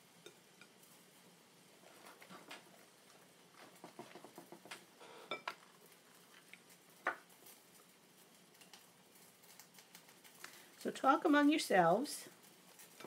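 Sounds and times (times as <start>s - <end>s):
rustling of cabbage leaves: 0.9s - 4.0s, 5.6s - 13.0s.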